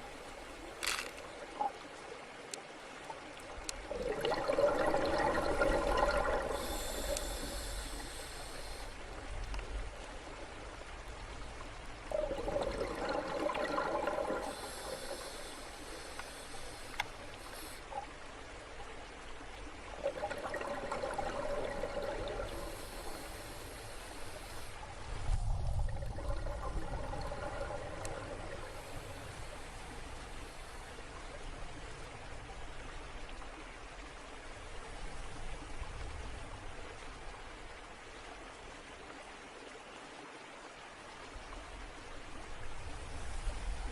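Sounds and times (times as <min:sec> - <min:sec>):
underwater water wash: 0:00.0 - 0:39.4, 0:40.9 - 0:43.9.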